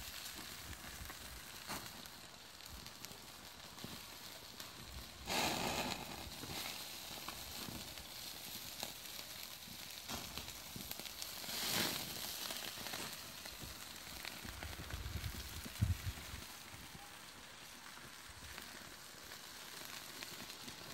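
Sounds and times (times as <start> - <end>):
food sizzling over charcoal: 0.0 - 20.9.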